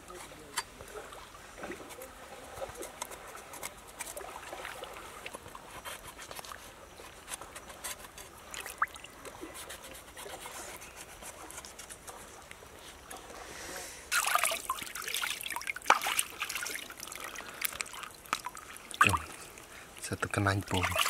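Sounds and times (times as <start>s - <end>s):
stream trickling: 0.0s - 21.0s.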